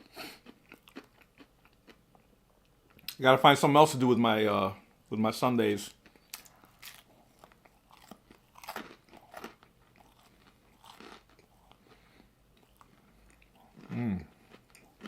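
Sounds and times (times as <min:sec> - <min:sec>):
chewing crunchy food: 0:00.0 - 0:03.2, 0:05.9 - 0:15.0.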